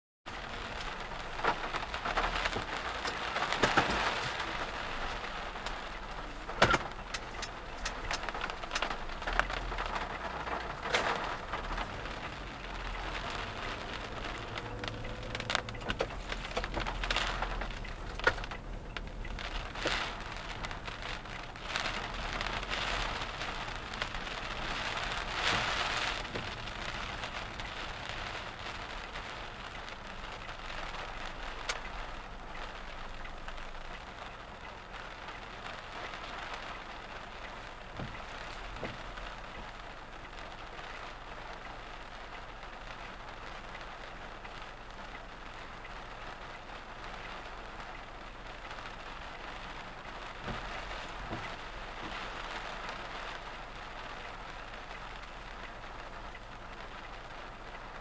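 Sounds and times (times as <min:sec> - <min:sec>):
heavy raindrop taps: 0:00.3 - 0:58.0
rain on car roof: 0:00.3 - 0:58.0.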